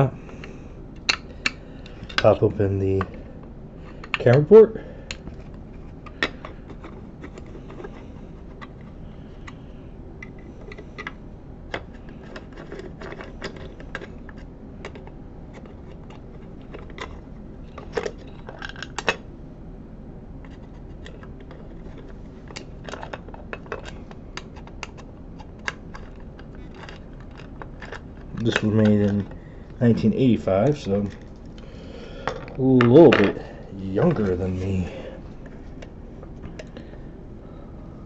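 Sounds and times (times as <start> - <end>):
light clicks taps and scrapes: 3.9 - 19.2, 20.4 - 37.0.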